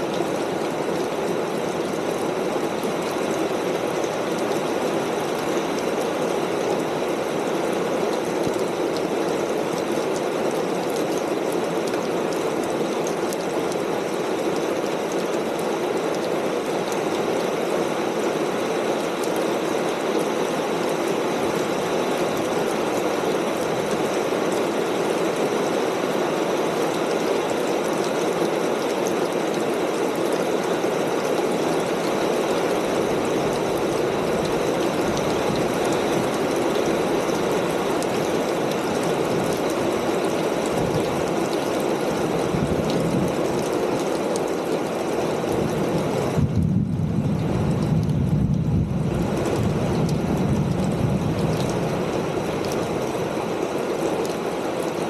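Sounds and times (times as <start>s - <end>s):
rain on a metal roof: 0.0s - 55.0s.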